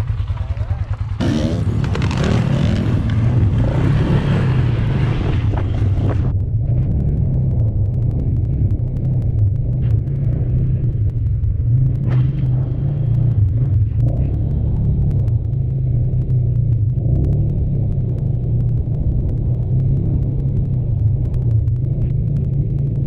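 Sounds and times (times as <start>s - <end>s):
tyre and road rumble: 0.0s - 23.0s.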